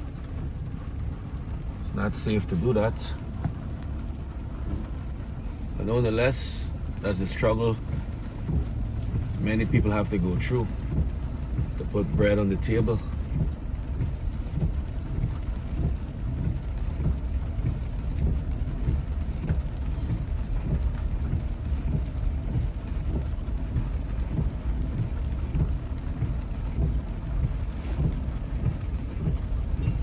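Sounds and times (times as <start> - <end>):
car driving on wet road: 0.0 - 30.0.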